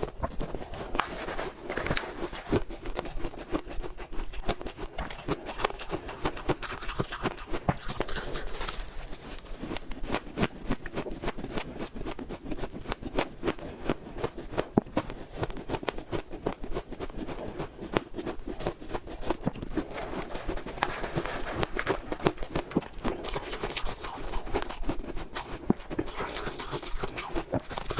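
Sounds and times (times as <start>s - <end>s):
chewing crunchy frost: 0.0s - 27.9s.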